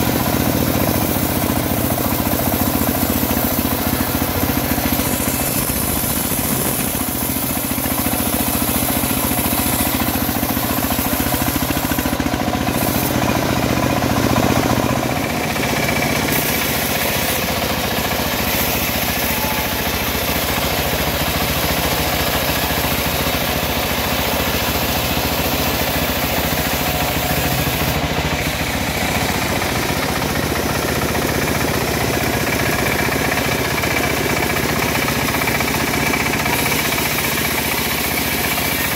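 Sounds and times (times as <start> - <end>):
band sawmill sawing log: 0.0 - 38.9.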